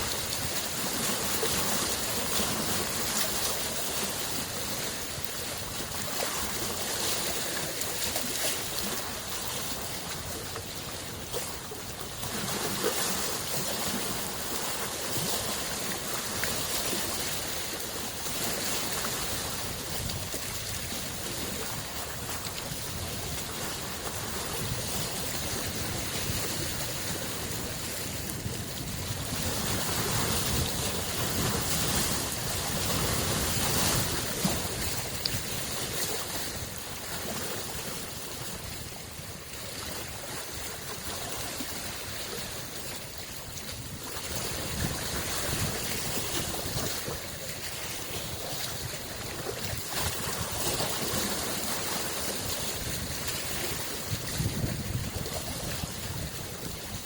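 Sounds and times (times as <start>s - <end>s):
lake waves lapping on shore: 0.0s - 57.0s.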